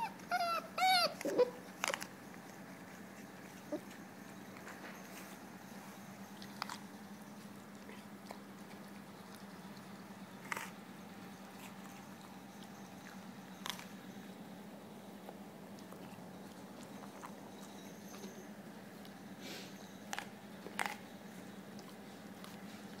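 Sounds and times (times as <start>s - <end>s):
faint steady hum: 0.0s - 23.0s
dog crunching an apple: 0.3s - 5.4s, 6.2s - 14.3s, 15.2s - 18.2s, 20.0s - 23.0s.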